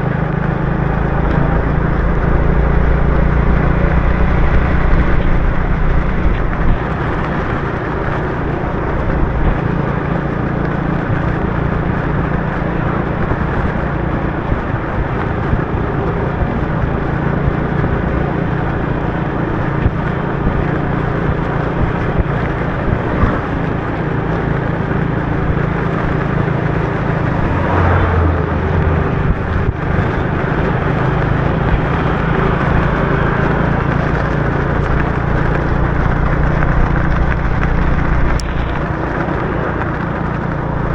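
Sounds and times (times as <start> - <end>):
motorbike engine running: 0.0 - 40.9
tyres on wet road: 0.0 - 40.9.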